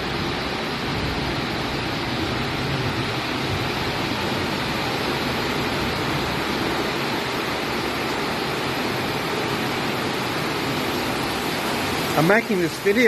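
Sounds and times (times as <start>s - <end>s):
heavy rain heard indoors: 0.0s - 13.0s.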